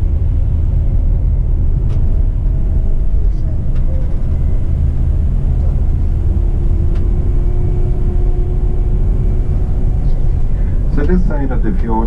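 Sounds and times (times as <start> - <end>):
coach engine drone: 0.0 - 12.0
low road rumble: 0.0 - 12.0.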